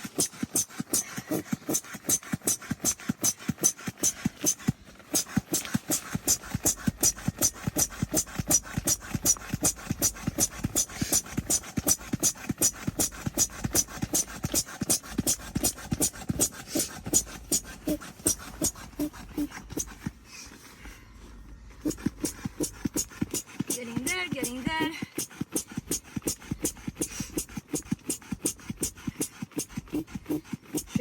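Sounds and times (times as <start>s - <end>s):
hand pump puffing air: 0.0s - 31.0s.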